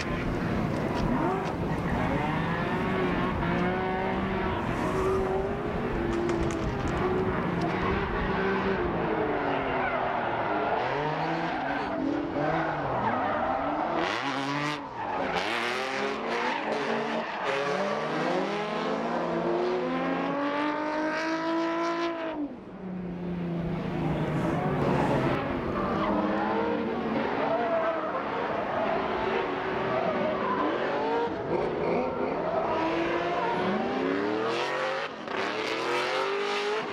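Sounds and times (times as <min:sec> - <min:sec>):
car engines revving: 0:00.0 - 0:36.9.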